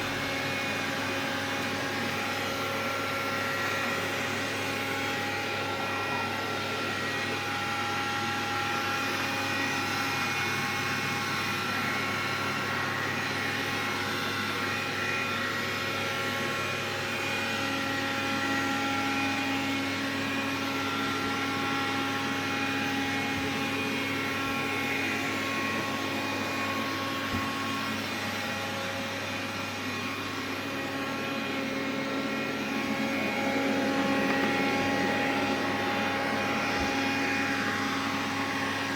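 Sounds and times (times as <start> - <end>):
vacuum cleaner whirring: 0.0 - 38.9.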